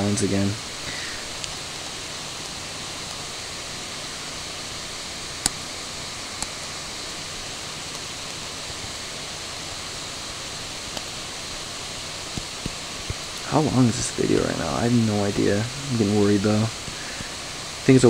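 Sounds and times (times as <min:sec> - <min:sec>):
faint low hum: 0:00.0 - 0:18.0
room and microphone hiss: 0:00.0 - 0:18.0.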